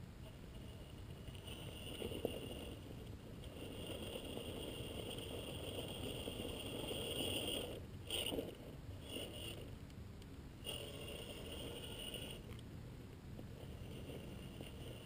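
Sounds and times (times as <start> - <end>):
toy truck motor whining: 0.5 - 9.7, 10.6 - 12.6, 13.5 - 15.0.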